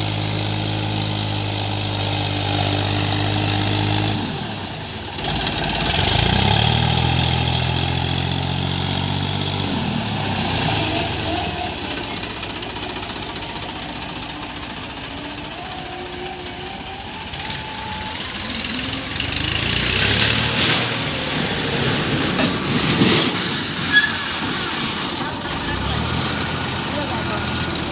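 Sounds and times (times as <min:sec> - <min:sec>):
tractor diesel engine straining: 0:00.0 - 0:27.9.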